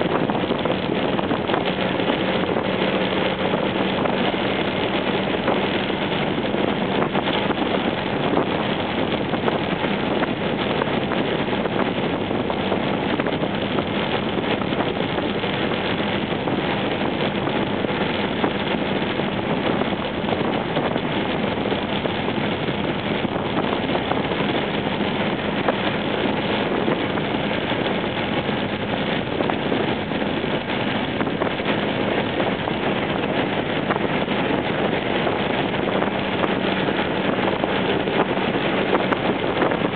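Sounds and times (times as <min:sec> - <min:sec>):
scooter road noise: 0:00.0 - 0:39.9
wind rushing on microphone: 0:00.0 - 0:39.9.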